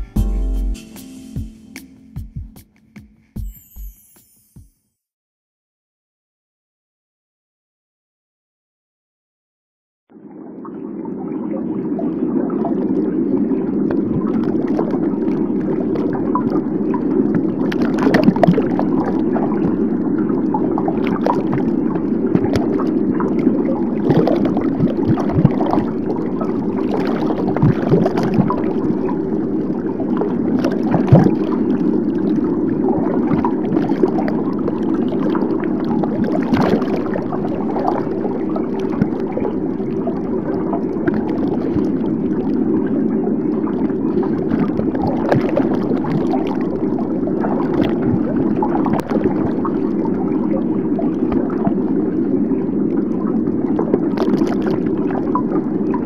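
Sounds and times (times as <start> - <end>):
muffled underwater rush: 10.1 - 56.0.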